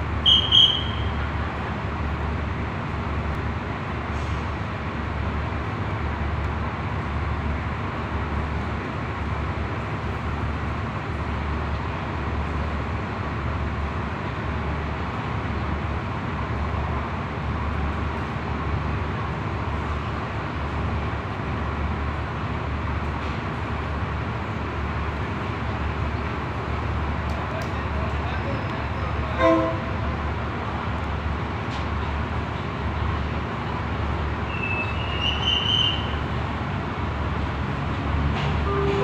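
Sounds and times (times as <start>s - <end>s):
diesel train rumbling: 0.0s - 39.0s.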